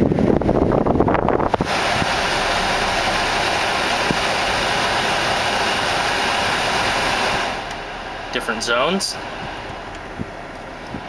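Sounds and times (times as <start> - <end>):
blower fan rushing air: 0.0 - 11.0.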